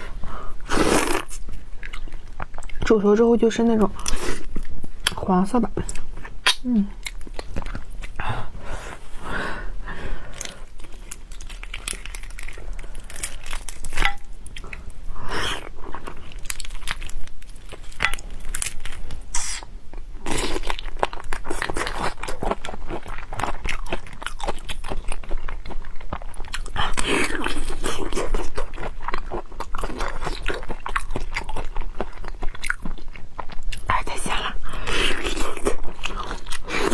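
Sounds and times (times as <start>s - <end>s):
person chewing and crunching: 0.0s - 2.8s, 3.9s - 36.9s.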